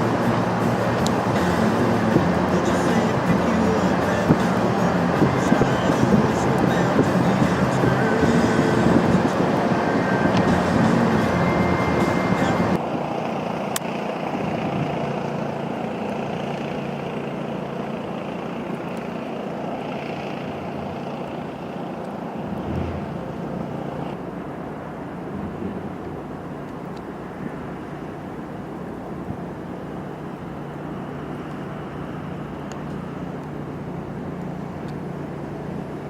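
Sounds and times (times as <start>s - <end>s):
road and wind noise: 0.0s - 36.0s
vehicle low hum: 0.0s - 36.0s.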